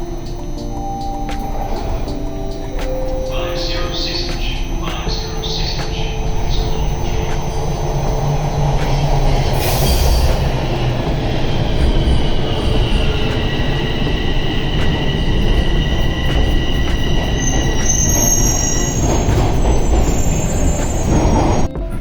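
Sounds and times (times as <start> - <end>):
wheel squeal: 0.0 - 21.7
subway train rumbling: 0.0 - 22.0.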